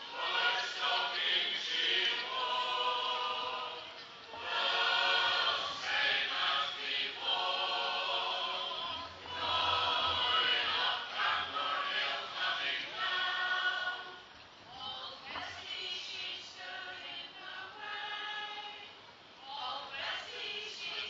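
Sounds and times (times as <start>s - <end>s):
choirs singing: 0.0s - 14.2s, 15.6s - 18.8s, 19.5s - 21.0s.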